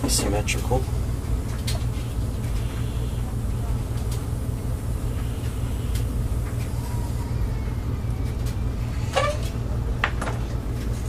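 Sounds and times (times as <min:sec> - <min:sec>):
low rumble of background noise: 0:00.0 - 0:11.0.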